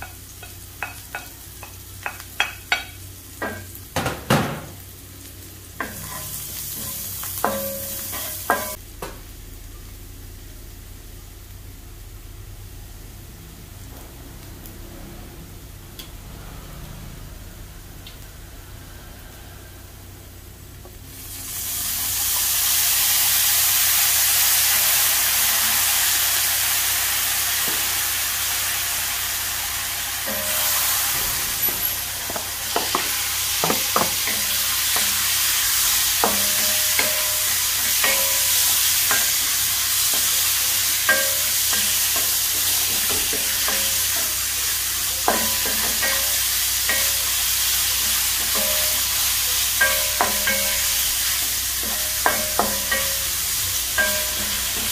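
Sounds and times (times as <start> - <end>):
onions sizzling in oil: 0.0 - 14.8, 17.5 - 54.9.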